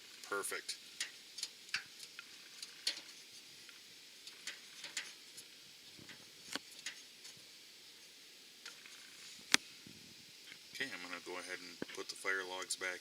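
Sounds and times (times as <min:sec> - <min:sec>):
gas fireplace hissing: 0:00.0 - 0:13.0.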